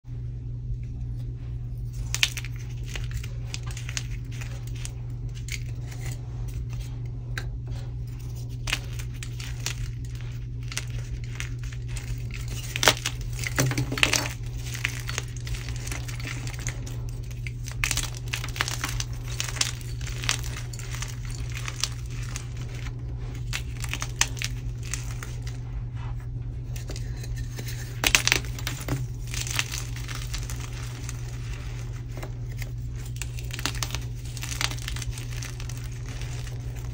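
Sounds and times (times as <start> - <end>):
hands crushing chalk: 1.9 - 7.5, 8.1 - 25.6, 26.6 - 36.9.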